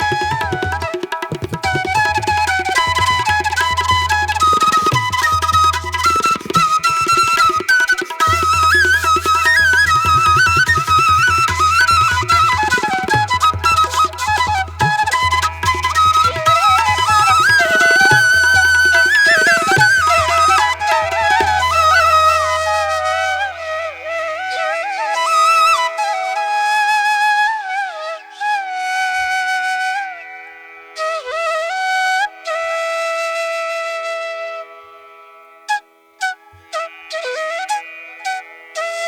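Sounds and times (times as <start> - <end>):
solo flute melody: 0.0 - 39.0.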